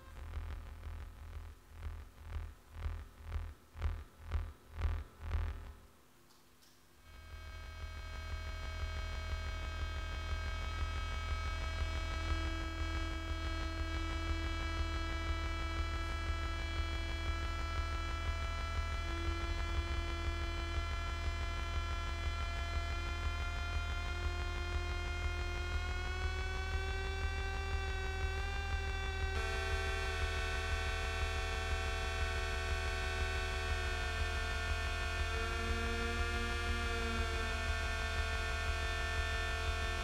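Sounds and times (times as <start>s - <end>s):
electronic keyboard drone: 7.1s - 40.0s.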